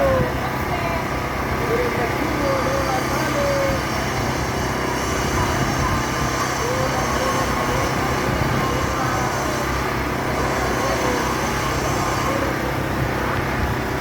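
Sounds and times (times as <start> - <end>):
traffic hum: 0.0 - 14.0
vehicle engines running: 0.0 - 14.0.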